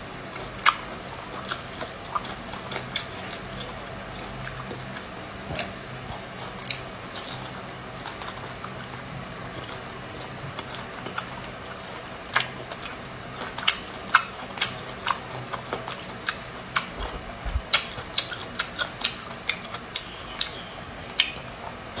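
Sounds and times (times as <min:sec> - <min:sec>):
low steady hum: 0:00.0 - 0:22.0
wet chewing and lip-smacking: 0:00.3 - 0:22.0.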